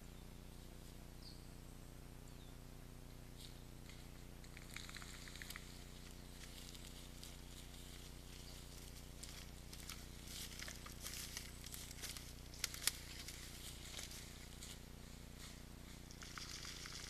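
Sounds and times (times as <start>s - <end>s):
steady low hum: 0.0s - 17.0s
deer footsteps rustling in grass: 3.3s - 17.0s.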